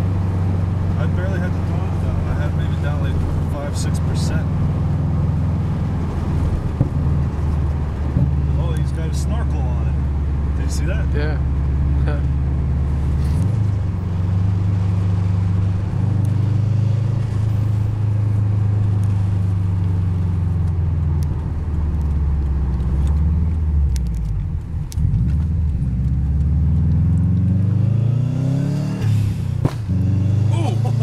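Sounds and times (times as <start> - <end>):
car engine droning in cabin: 0.0 - 31.0.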